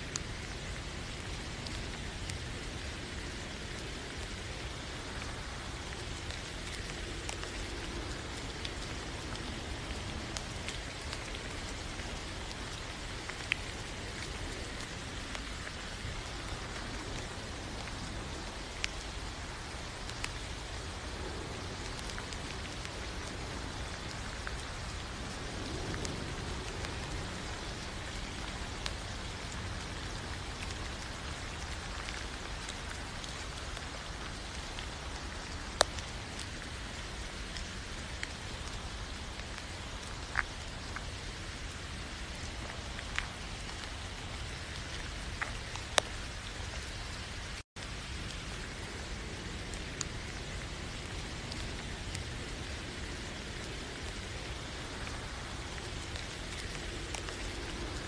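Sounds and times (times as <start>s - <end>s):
steady rain falling: 0.0s - 58.0s
raindrops tapping: 0.1s - 58.0s.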